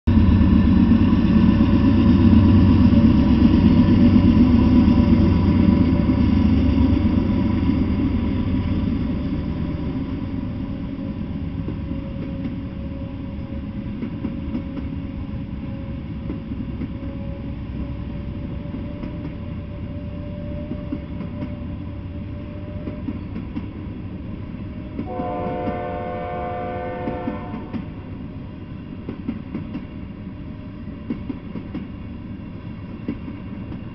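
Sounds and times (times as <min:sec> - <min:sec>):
freight train rumbling past: 0:00.1 - 0:33.9.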